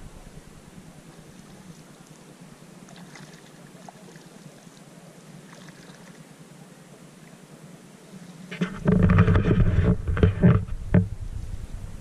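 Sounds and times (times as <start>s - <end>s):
low hiss: 0.0s - 8.8s, 10.7s - 12.0s
paddles splashing in water: 0.0s - 10.6s.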